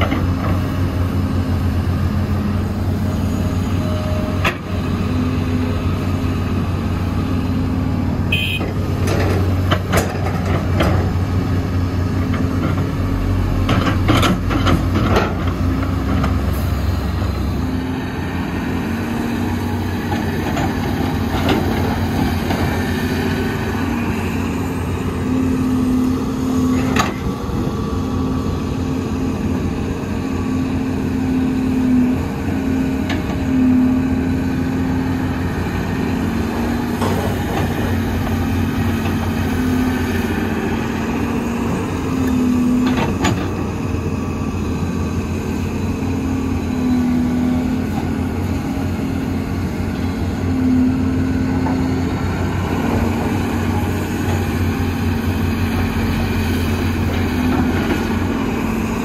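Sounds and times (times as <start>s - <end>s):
heavy diesel engines running: 0.0s - 59.0s.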